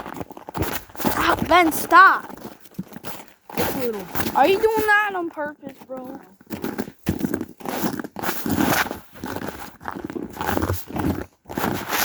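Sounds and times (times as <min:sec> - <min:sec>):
footsteps crunching through snow: 0:00.0 - 0:12.0.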